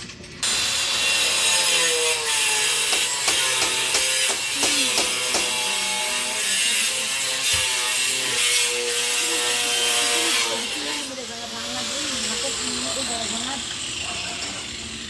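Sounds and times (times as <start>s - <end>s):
power tool running: 0.3s - 15.0s.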